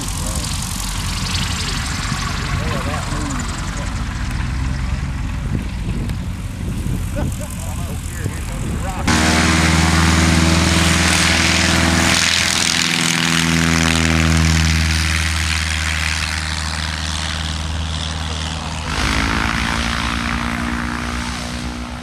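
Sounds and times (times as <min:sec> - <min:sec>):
light airplane engine drone: 0:00.0 - 0:22.0
propeller hiss: 0:00.0 - 0:22.0.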